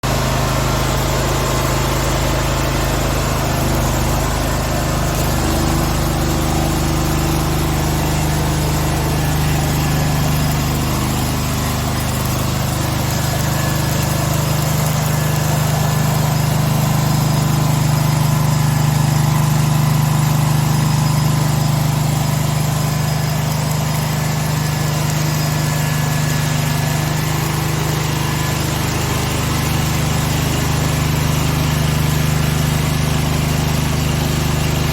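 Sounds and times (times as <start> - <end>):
gasoline generator running: 0.0 - 34.9.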